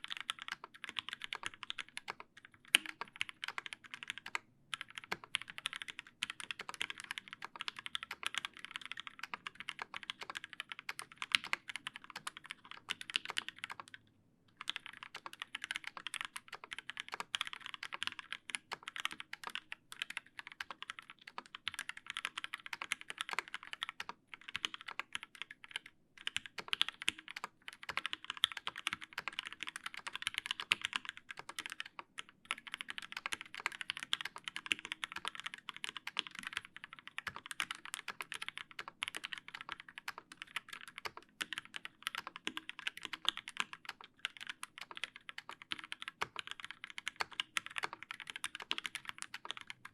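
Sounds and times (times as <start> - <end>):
fast typing on mechanical keyboard: 0.0 - 14.0, 14.6 - 49.9.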